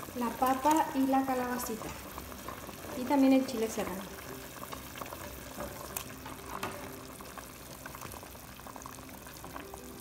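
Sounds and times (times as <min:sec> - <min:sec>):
broth boiling and bubbling: 0:00.0 - 0:10.0.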